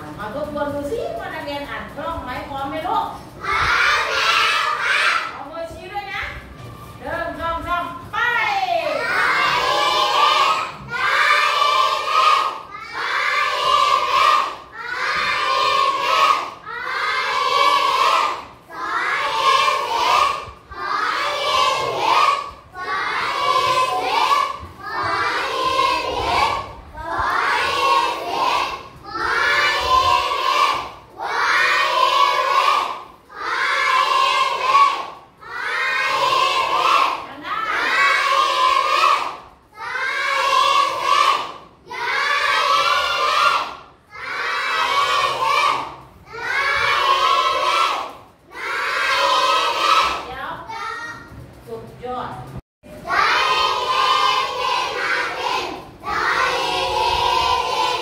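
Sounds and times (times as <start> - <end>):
children chanting in unison: 3.2 - 5.4, 8.9 - 51.1, 53.0 - 58.0.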